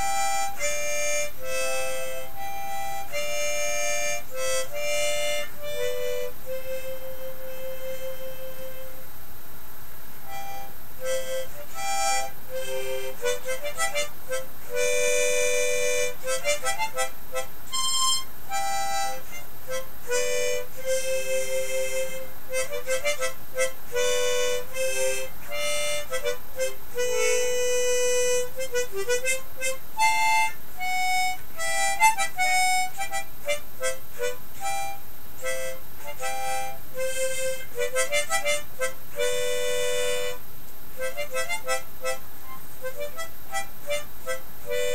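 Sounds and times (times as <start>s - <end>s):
harmonica melody: 0.0s - 9.0s, 10.3s - 40.4s, 41.0s - 44.9s.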